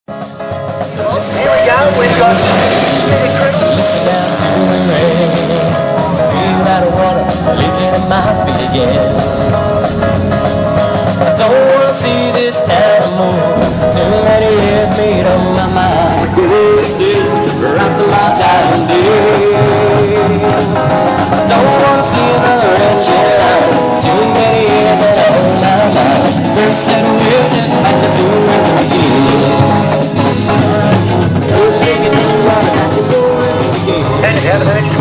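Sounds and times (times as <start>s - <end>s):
guitar: 0.0s - 35.0s
rock song: 0.1s - 35.0s
man singing: 0.8s - 35.0s.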